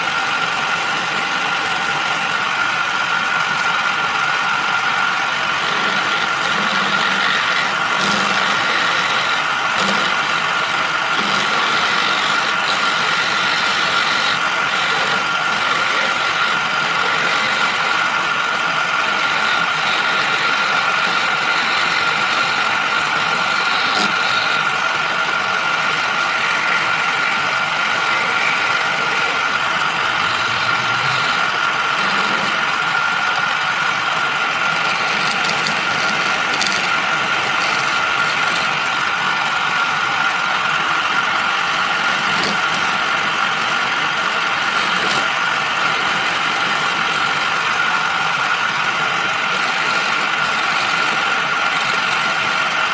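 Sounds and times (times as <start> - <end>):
chisel scraping wood: 0.0 - 2.5, 5.2 - 32.8, 34.6 - 38.8, 41.8 - 47.6, 49.4 - 52.9
wood lathe whine: 0.0 - 52.9.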